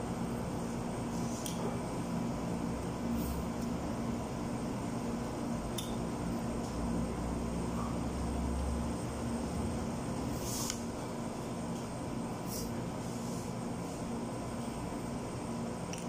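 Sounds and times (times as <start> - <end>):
mechanical room hum: 0.0 - 16.0.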